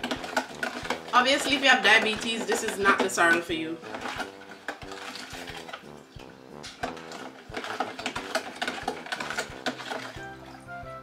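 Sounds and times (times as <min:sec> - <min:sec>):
soft music: 0:00.0 - 0:11.0.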